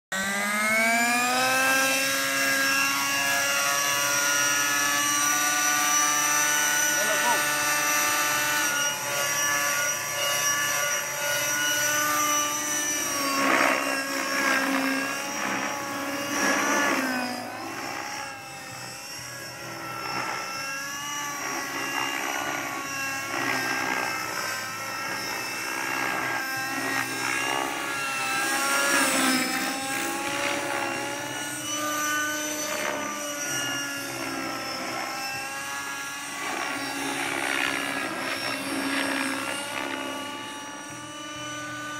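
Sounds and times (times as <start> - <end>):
model helicopter rotor whine: 0.1 - 41.9.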